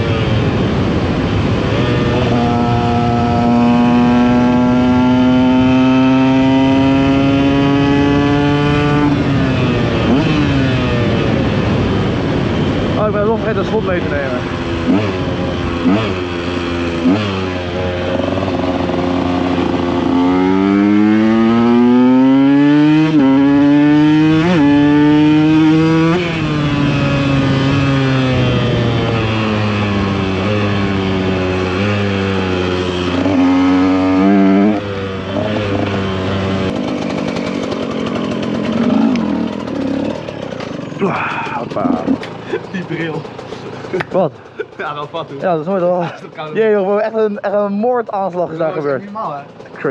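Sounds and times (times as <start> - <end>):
two-stroke motorcycle engine: 0.0 - 49.9.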